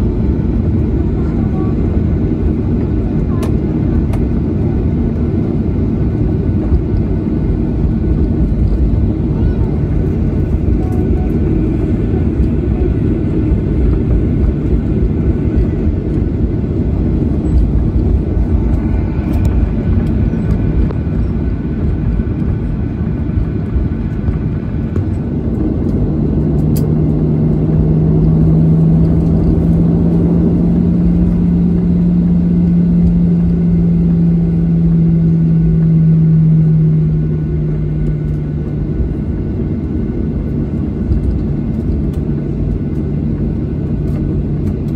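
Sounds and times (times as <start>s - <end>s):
airplane cabin engine rumble: 0.0s - 44.9s
steady hum: 0.0s - 44.9s.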